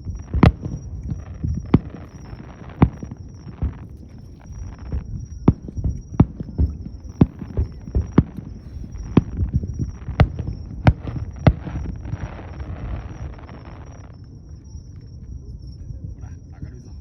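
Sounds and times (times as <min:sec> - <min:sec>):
fireworks bangs: 0:00.0 - 0:14.9
low rumble of booms and echoes: 0:00.0 - 0:17.0.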